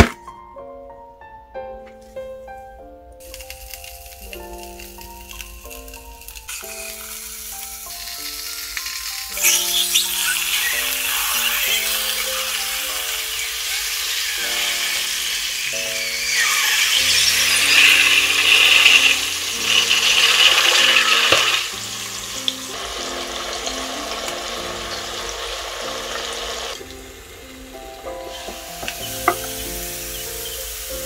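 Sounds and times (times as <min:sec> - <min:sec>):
background music: 0:00.0 - 0:31.0
meat sizzling in waffle maker: 0:03.2 - 0:31.0.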